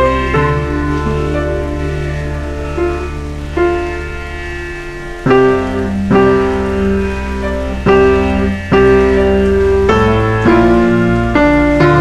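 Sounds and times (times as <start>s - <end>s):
slow piano chords: 0.0s - 12.0s
sustained low bass: 0.0s - 12.0s.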